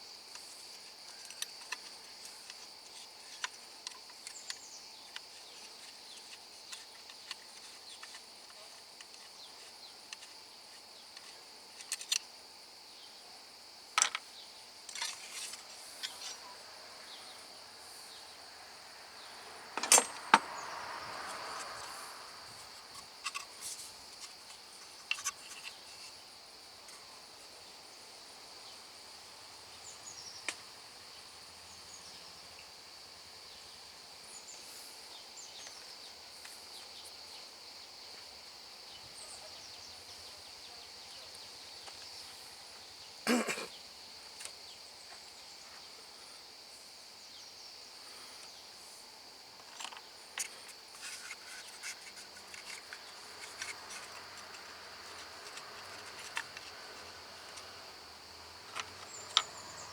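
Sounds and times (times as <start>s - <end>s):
insect chirring: 0.0s - 59.9s.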